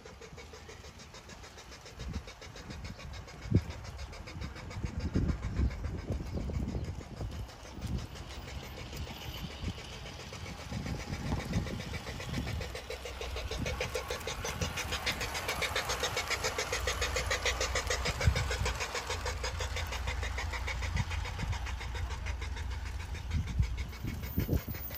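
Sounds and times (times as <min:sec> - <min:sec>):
model train motor whirring: 0:00.0 - 0:24.9
wheels clicking over rails: 0:00.0 - 0:24.9.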